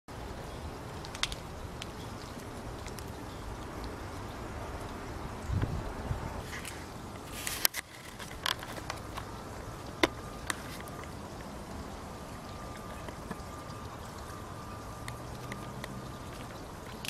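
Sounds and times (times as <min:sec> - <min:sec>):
outdoor background noise: 0:00.1 - 0:17.0.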